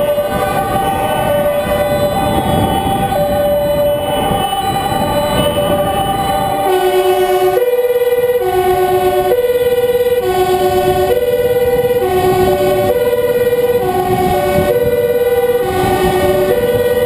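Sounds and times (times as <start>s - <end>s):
engine and road noise: 0.0s - 17.0s
two-tone emergency sirens: 0.0s - 17.0s.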